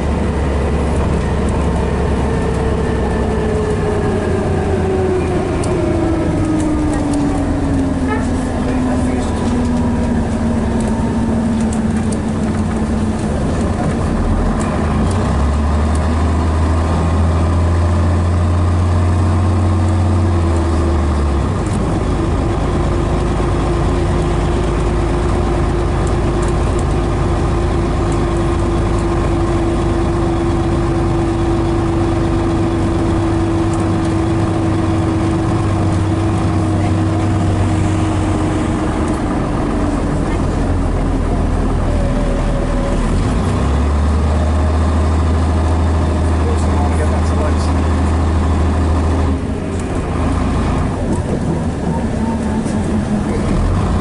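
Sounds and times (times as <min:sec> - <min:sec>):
bus diesel engine droning: 0:00.0 - 0:54.0.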